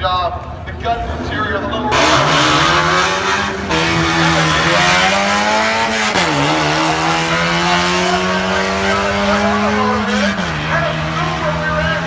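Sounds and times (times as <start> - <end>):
car engine accelerating hard: 1.0 - 12.0.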